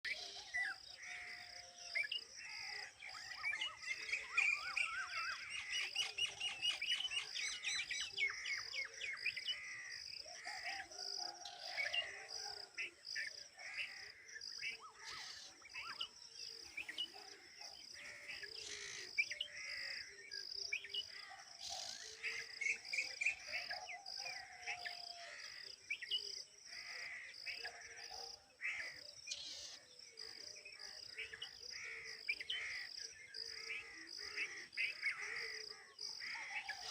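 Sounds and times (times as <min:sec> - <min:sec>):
birds chirping and calling: 0:00.1 - 0:36.9.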